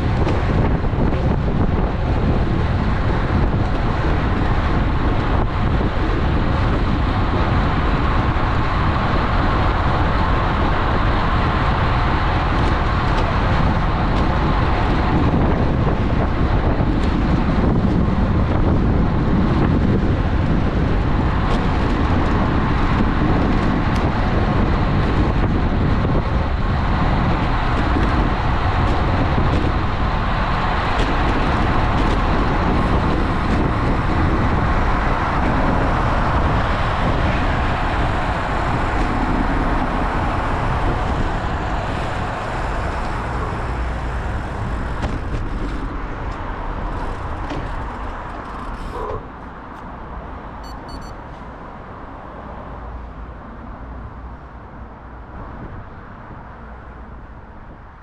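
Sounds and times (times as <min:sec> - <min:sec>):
tyre and road noise: 0:00.0 - 0:58.0
wind buffeting microphone: 0:00.0 - 0:58.0.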